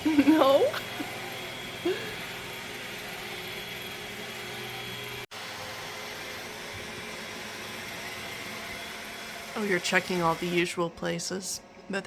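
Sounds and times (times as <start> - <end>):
robot vacuum humming: 0.0 - 10.8.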